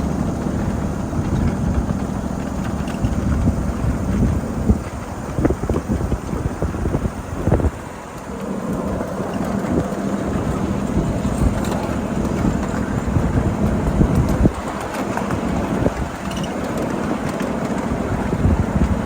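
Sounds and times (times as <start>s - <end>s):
miniature train wheels clattering: 0.0s - 19.0s
steady low hum: 0.0s - 19.0s
wind buffeting microphone: 0.0s - 19.0s.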